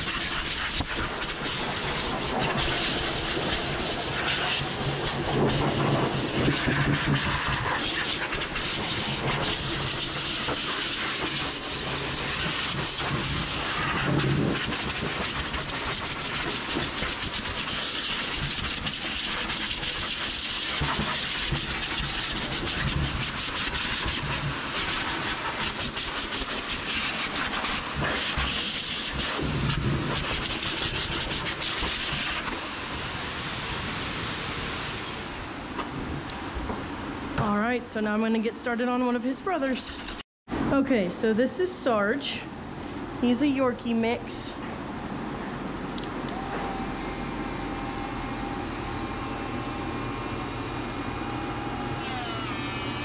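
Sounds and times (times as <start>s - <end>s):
dog grooming dryer blowing air: 0.0s - 36.6s, 46.0s - 53.0s.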